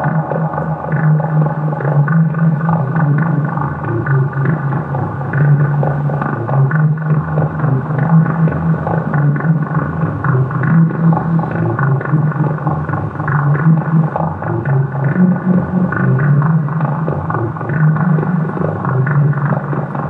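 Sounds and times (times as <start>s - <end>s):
loud steady low drone: 0.0s - 20.0s.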